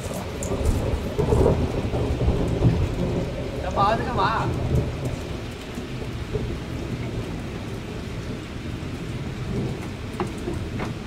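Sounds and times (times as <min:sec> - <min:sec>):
heavy rain falling: 0:00.0 - 0:11.0
low rumble of thunder: 0:00.0 - 0:11.0.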